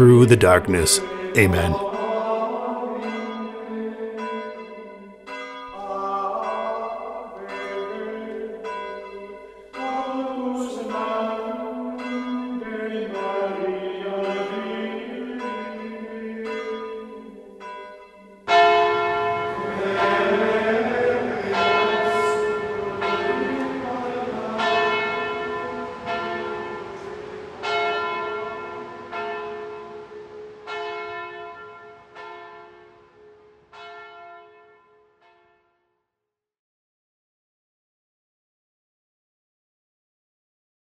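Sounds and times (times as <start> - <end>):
church bell tolling: 0.0 - 35.6.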